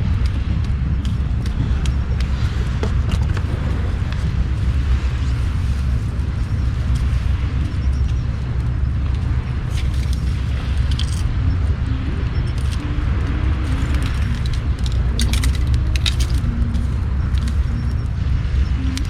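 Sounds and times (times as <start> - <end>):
bonfire crackling: 0.0 - 19.0
steady low rumble: 0.0 - 19.0.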